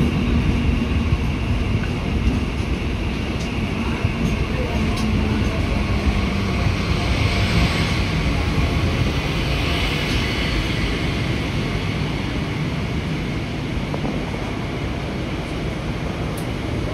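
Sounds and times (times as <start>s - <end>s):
electric train rushing: 0.0s - 16.9s.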